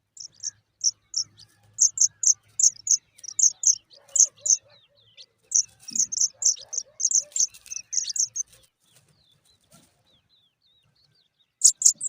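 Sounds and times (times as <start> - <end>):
nestlings begging chirps: 0.0 - 9.4, 11.6 - 12.0.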